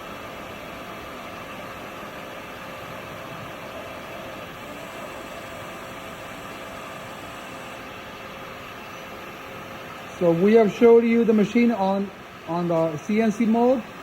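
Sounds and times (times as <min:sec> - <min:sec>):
milling machine humming: 0:00.0 - 0:14.0.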